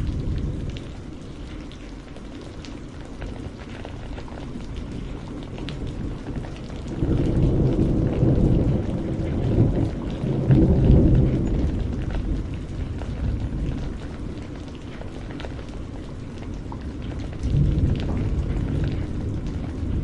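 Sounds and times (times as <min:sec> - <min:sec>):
low rumble of thunder: 0:00.0 - 0:20.0
steady rain: 0:00.0 - 0:20.0.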